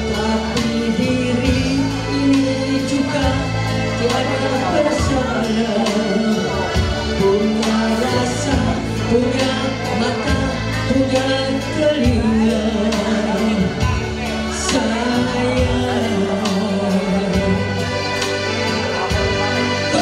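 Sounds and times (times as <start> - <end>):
woman singing into a microphone: 0.0 - 17.8
pop backing music with steady beat: 0.0 - 20.0.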